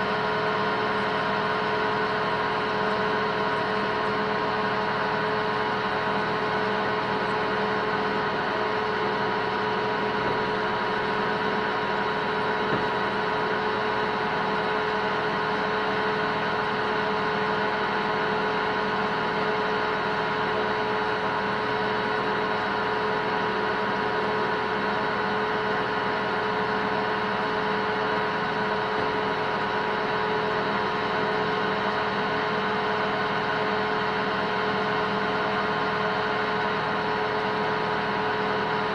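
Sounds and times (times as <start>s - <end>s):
metal lathe running: 0.0s - 38.9s.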